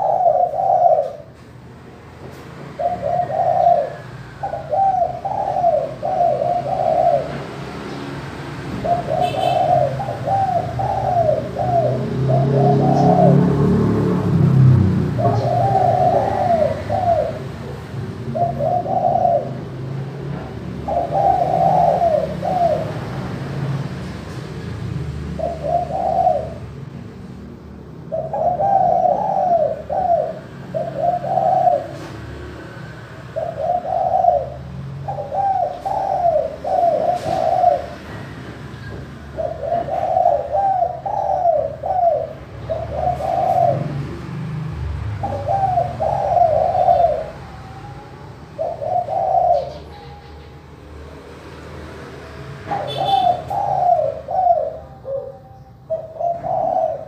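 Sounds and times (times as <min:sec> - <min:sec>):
dove cooing: 0:00.0 - 0:01.5, 0:02.6 - 0:26.9, 0:27.8 - 0:57.0.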